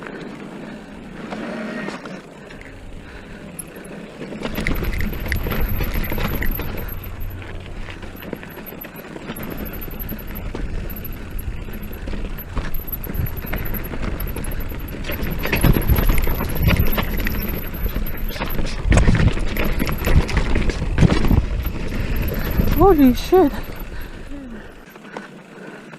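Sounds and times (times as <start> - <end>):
bike chain and frame rattling: 0.0 - 25.8
wind and rolling noise: 0.0 - 25.9.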